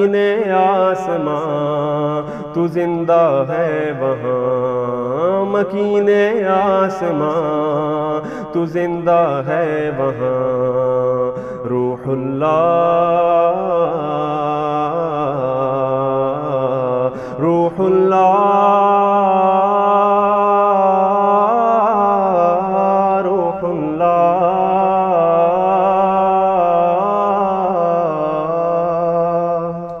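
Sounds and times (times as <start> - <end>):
man singing long wavering notes: 0.0 - 29.9.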